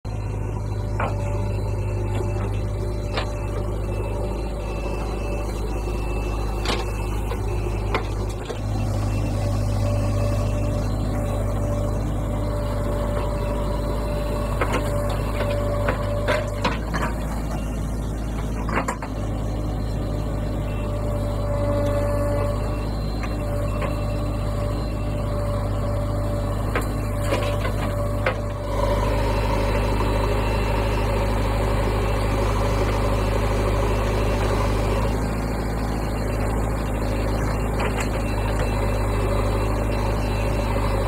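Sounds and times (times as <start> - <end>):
diesel engine running under load: 0.0 - 41.0.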